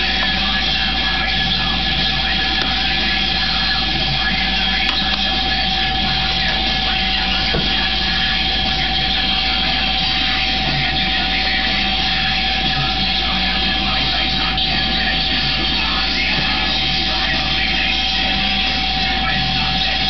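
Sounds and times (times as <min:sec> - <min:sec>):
mechanical hum with high whine: 0:00.0 - 0:20.0.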